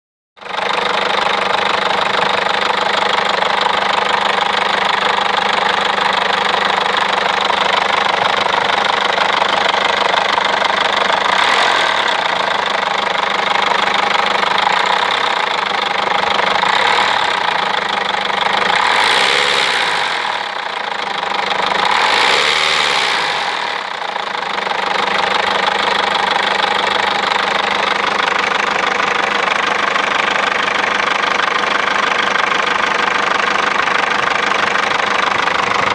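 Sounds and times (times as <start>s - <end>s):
diesel engine knocking clatter: 0.4s - 35.9s.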